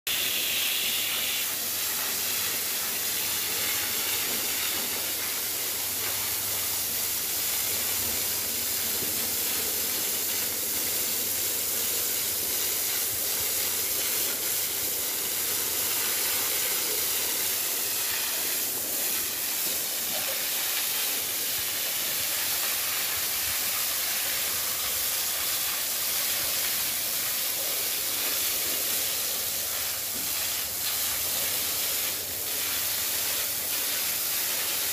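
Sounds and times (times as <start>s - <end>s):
water spray hissing: 0.1s - 34.9s.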